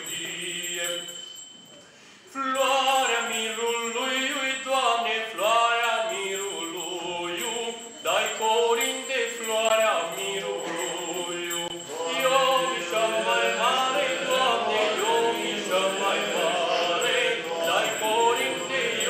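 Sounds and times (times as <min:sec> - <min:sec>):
men singing a carol: 0:00.0 - 0:01.2, 0:02.3 - 0:19.0.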